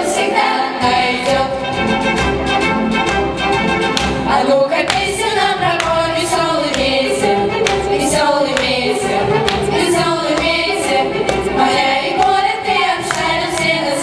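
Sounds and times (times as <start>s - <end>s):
choir singing: 0.0s - 2.2s, 4.0s - 14.0s
musical accompaniment: 1.1s - 14.0s.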